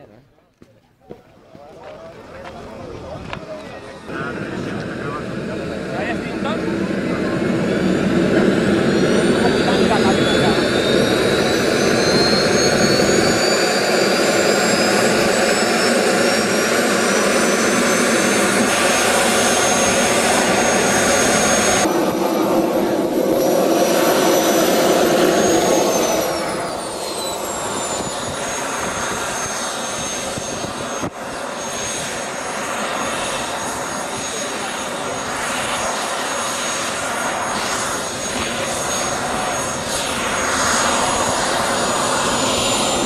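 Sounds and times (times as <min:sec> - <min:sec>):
jet turbine whining: 0:01.4 - 0:43.0.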